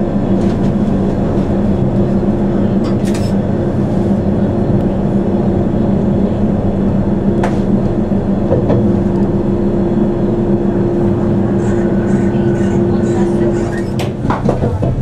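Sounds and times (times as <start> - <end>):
electric train motor drone: 0.0 - 15.0.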